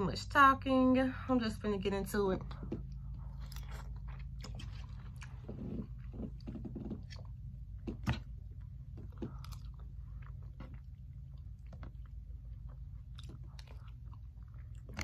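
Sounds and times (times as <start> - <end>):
person chewing: 2.8 - 15.0.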